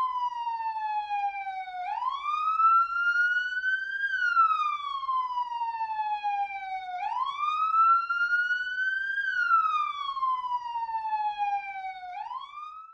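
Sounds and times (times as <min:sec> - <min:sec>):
police siren wailing: 0:00.0 - 0:12.9.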